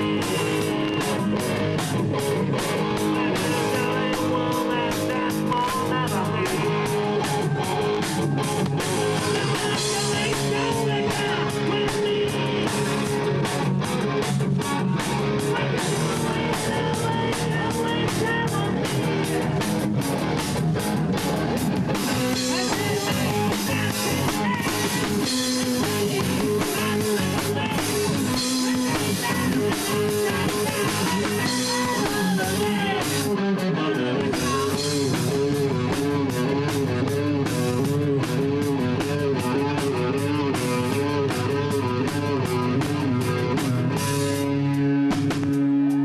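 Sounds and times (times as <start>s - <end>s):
drum kit: 0.0s - 46.0s
electric guitar: 0.0s - 46.0s.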